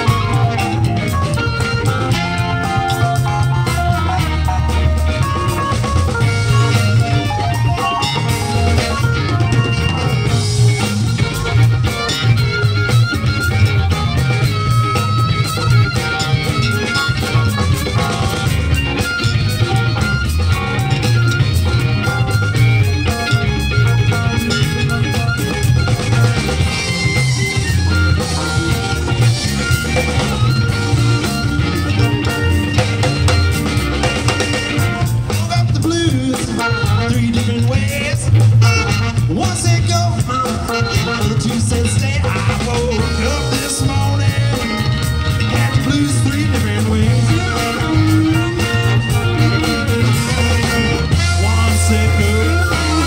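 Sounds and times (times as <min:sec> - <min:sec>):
bass: 0:00.0 - 0:53.0
drum kit groove: 0:00.0 - 0:53.0
electric guitars: 0:00.0 - 0:53.0
horn or harmonica: 0:00.0 - 0:53.0
keyboard: 0:00.0 - 0:53.0.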